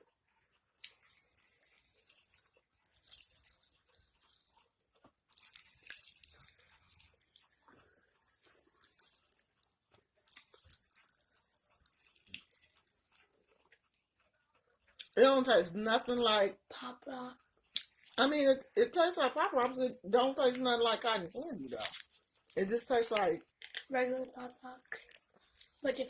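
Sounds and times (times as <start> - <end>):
popping candy crackling: 0.2 - 26.0.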